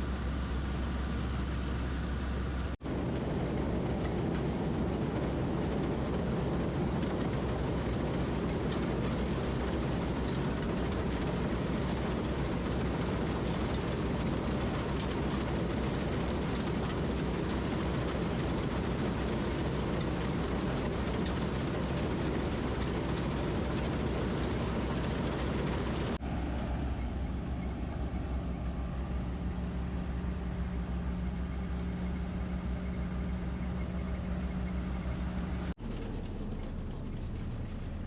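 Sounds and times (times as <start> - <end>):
combine harvester engine running: 0.0 - 38.0.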